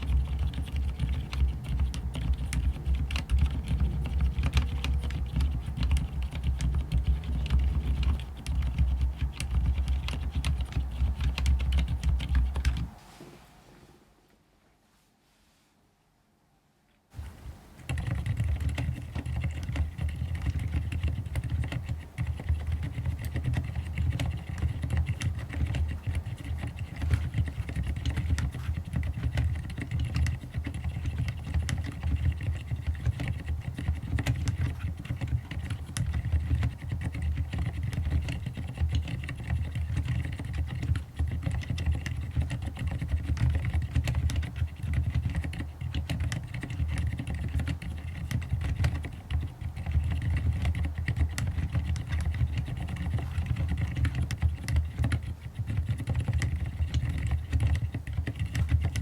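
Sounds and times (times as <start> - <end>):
fast mechanical keyboard typing: 0.0 - 12.9, 17.2 - 59.0.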